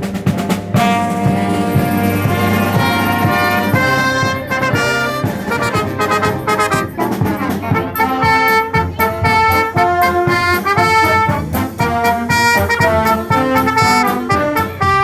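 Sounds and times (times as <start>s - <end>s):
brass playing rhythmic notes: 0.0s - 15.0s
concert band playing: 0.0s - 15.0s
light percussion: 0.0s - 15.0s.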